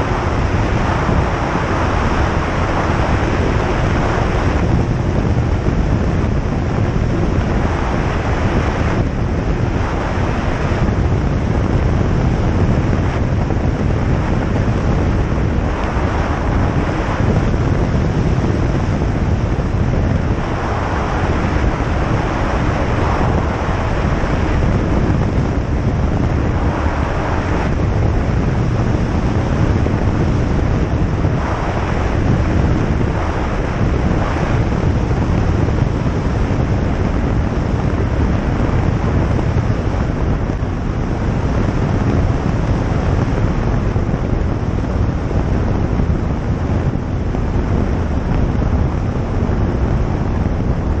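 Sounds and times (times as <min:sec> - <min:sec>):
light aircraft engine and propeller: 0:00.0 - 0:51.0
rush of air: 0:00.0 - 0:51.0.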